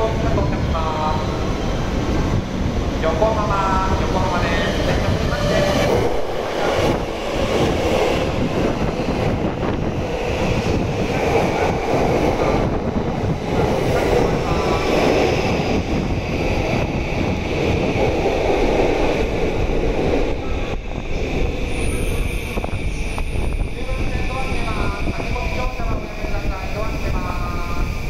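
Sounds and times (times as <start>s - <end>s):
electric train rolling: 0.0s - 28.0s
wind buffeting microphone: 0.0s - 28.0s.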